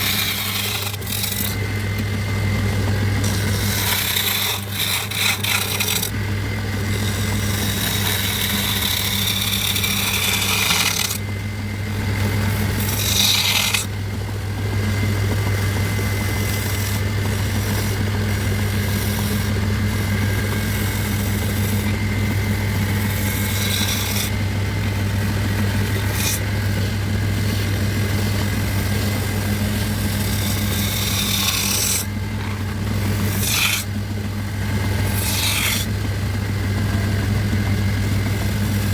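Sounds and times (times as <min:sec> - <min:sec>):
tool scraping wood: 0:00.0 - 0:14.2, 0:14.8 - 0:38.9
power tool motor humming: 0:00.0 - 0:38.9.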